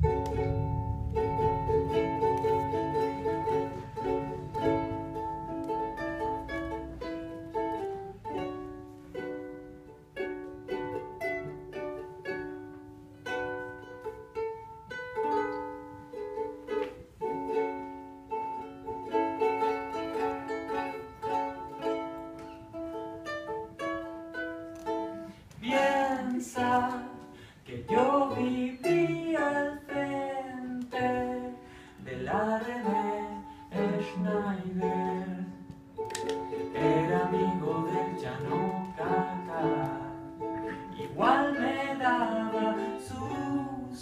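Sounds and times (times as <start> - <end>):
acoustic plucked-string melody: 0.0 - 44.0.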